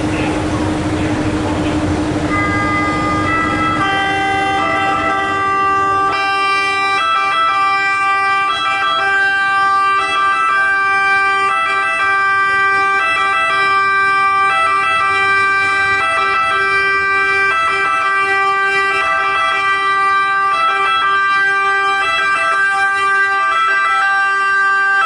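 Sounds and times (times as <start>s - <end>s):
two-tone emergency sirens: 0.3s - 25.0s.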